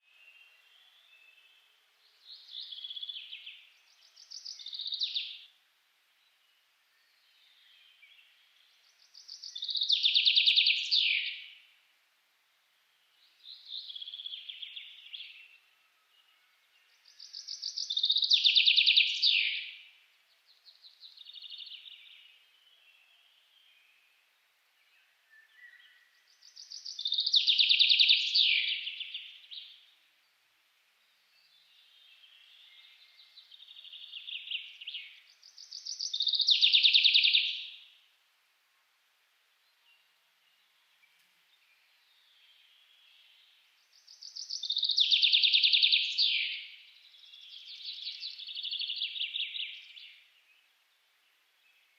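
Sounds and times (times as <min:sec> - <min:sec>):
songbirds singing trills: 0:00.0 - 0:05.6, 0:06.2 - 0:11.8, 0:12.9 - 0:38.1, 0:39.6 - 0:51.9.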